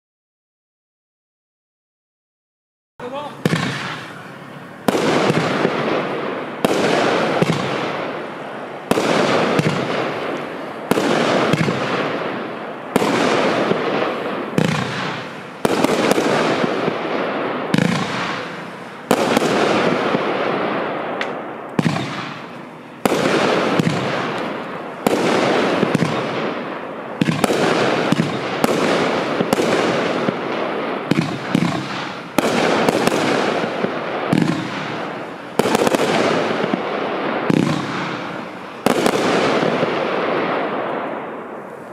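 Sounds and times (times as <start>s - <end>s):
firework bangs: 3.0s - 41.9s
noisy firework tail: 3.0s - 41.9s.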